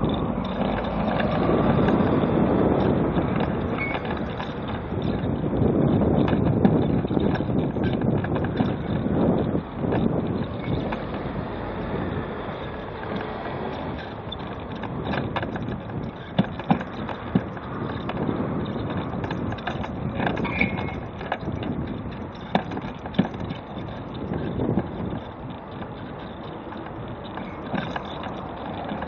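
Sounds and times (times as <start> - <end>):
road traffic passing: 0.0 - 29.0
wind buffeting microphone: 0.0 - 29.0.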